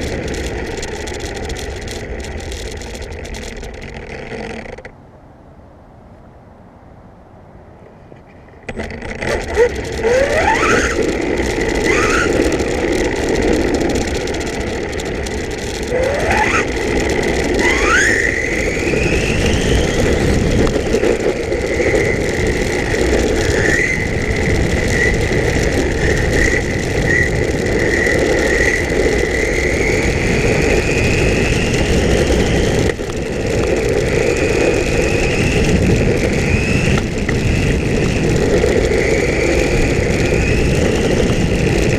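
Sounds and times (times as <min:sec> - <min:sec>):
rc car motor whine: 0:00.0 - 0:04.9, 0:08.7 - 0:41.9.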